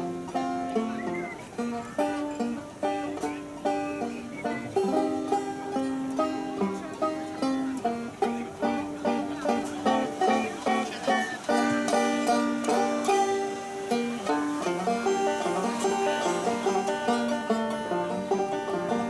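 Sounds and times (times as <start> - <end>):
banjo fingerpicked: 0.0 - 19.0.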